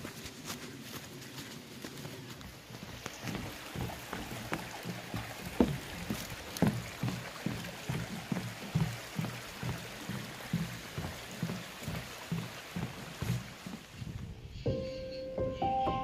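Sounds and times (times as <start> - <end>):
footsteps on paved path: 0.0 - 14.4
stream running over rocks: 0.0 - 14.4.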